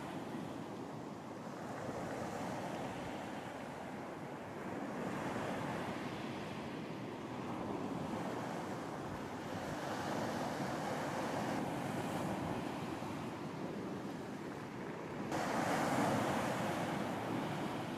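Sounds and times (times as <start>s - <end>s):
ocean surf washing on beach: 0.0s - 17.9s
wind: 0.0s - 17.9s.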